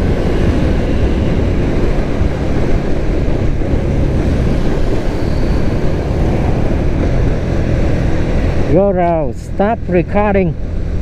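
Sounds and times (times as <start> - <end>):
road noise: 0.0 - 11.0
wind rumble: 0.0 - 11.0.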